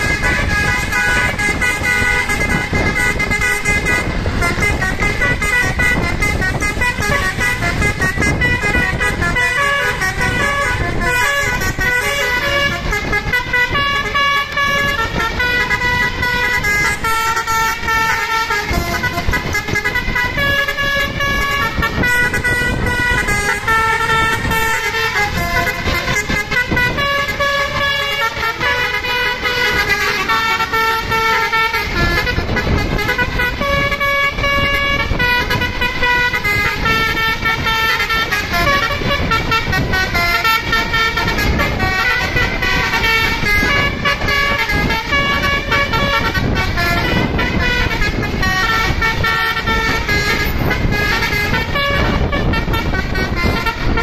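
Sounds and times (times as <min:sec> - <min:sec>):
bus horn playing a melody: 0:00.0 - 0:54.0
low vehicle noise: 0:00.0 - 0:54.0.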